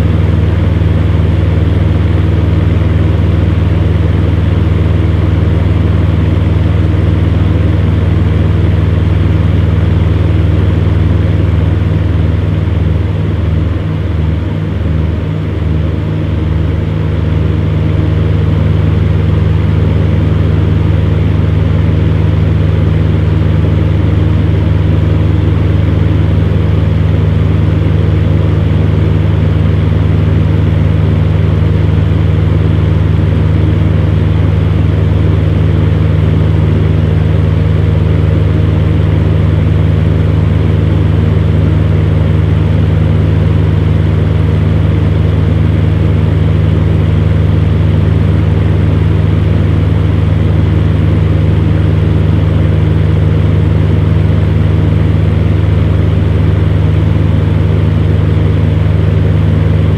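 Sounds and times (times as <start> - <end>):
fan heater humming: 0.0 - 59.9.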